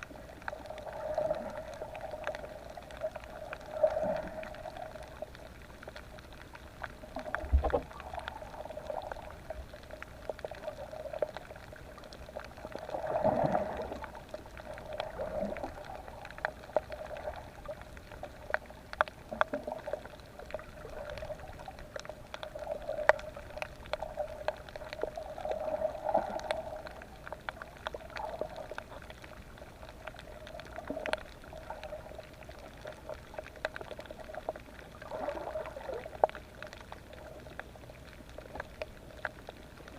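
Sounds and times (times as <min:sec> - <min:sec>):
muffled underwater hum: 0:00.0 - 0:39.9
reef clicks and crackles: 0:00.0 - 0:39.9.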